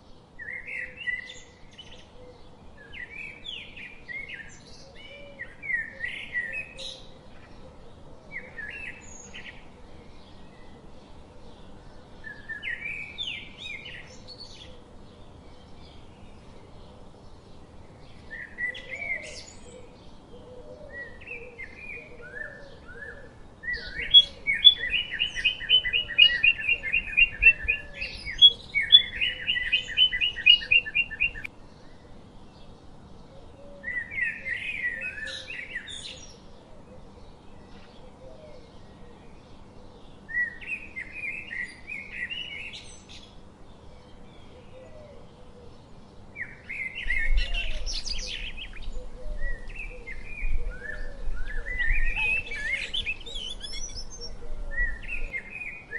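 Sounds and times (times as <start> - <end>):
songbird singing chirps and trills: 0.0 - 55.9.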